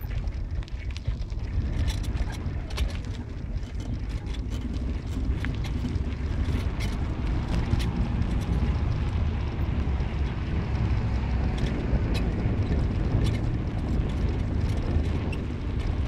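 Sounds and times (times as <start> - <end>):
car road and engine rumble: 0.0 - 16.0
small clicks and rattles: 0.0 - 16.0.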